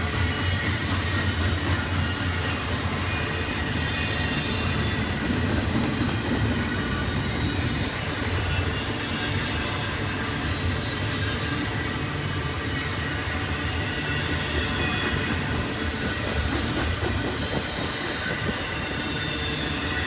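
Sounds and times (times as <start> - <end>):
faint high wheel squeal: 0.0 - 16.5, 17.2 - 20.0
steel wheels rumbling on rail: 0.0 - 20.0.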